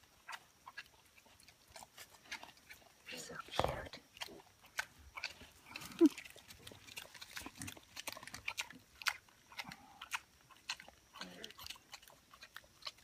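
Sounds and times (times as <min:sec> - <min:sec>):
pig chewing and crunching food: 0:00.0 - 0:13.0.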